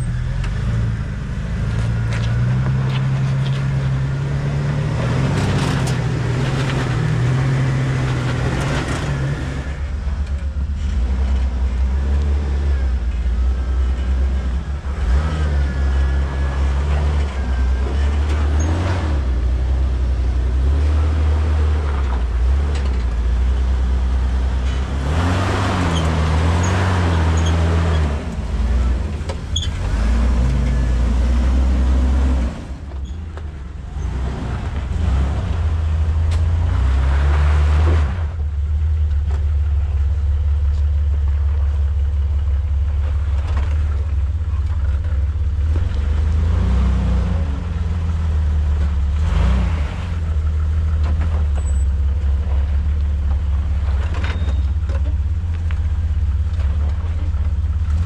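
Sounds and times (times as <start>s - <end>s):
car engine running at low revs: 0.0s - 58.0s.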